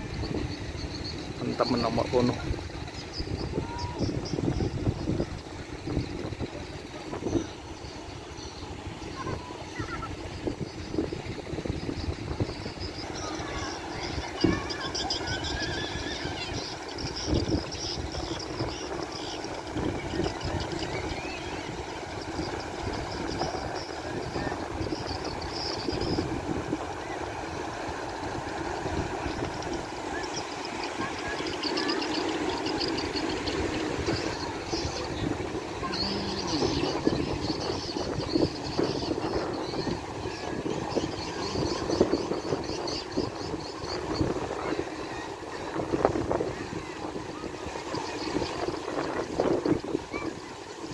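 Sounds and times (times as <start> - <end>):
rushing tidal bore: 0.0 - 50.9
wind buffeting microphone: 0.0 - 50.9
faint distant voices: 0.2 - 50.9.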